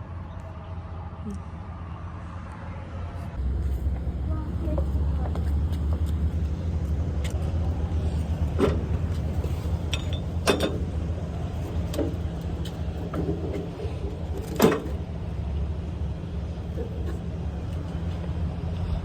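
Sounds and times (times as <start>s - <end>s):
engine and road drone: 0.0s - 19.0s.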